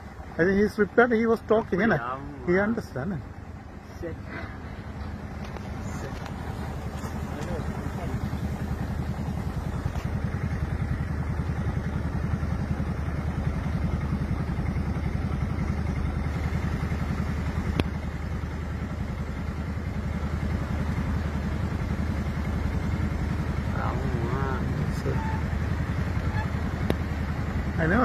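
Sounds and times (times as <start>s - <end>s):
engine running with fast chug: 0.0s - 28.0s.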